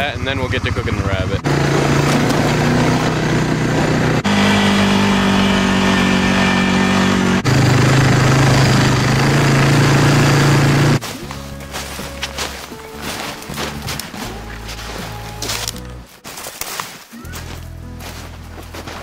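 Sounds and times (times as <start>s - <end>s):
atv engine running: 0.0s - 16.1s.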